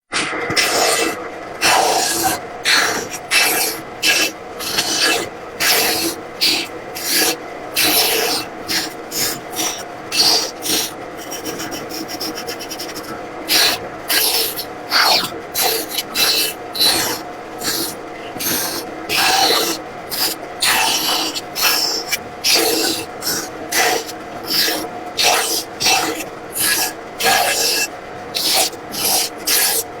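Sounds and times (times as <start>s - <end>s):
saw rasping through wood: 0.5s - 30.0s.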